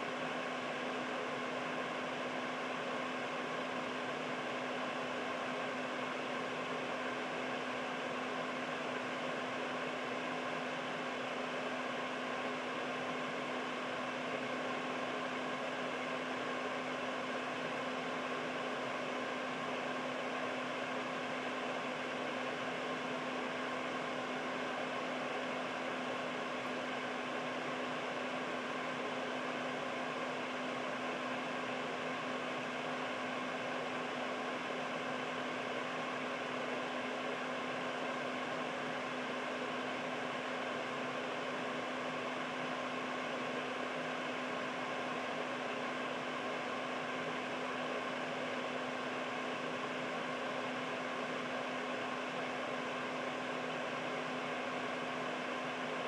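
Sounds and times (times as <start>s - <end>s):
air purifier fan running: 0.0s - 56.0s.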